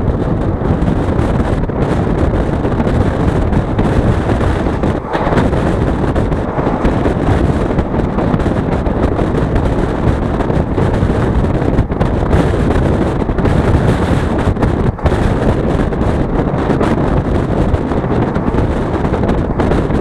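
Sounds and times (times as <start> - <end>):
passenger train running: 0.0 - 20.0
wind buffeting microphone: 0.0 - 20.0.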